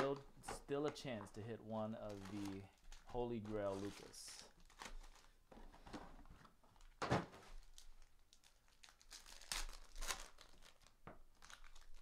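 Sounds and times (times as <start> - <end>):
handling card packs: 0.0 - 12.0.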